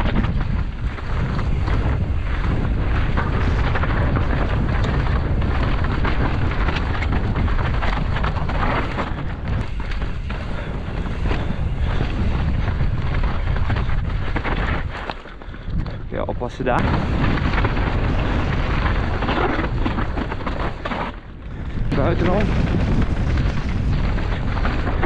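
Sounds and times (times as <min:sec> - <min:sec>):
bike knocking and rattling: 0:00.0 - 0:25.0
bike tyres crunching on gravel: 0:00.0 - 0:25.0
wind buffeting microphone: 0:00.0 - 0:25.0.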